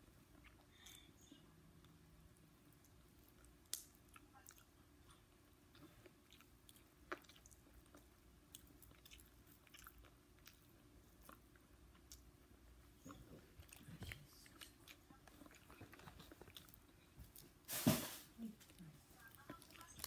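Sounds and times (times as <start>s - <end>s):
faint chewing: 0.0s - 17.7s, 18.4s - 20.0s.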